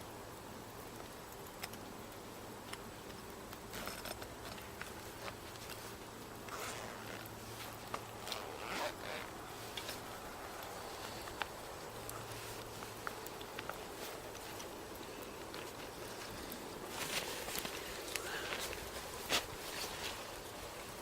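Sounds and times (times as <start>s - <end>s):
rustling and scraping: 3.6s - 21.0s.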